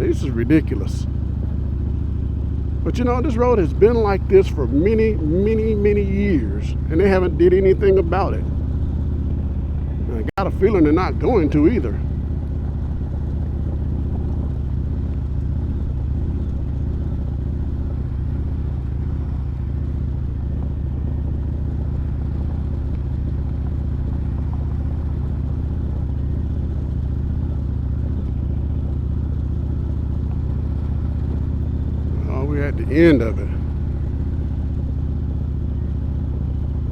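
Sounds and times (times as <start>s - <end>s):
motorcycle engine low rumble: 0.0s - 36.9s.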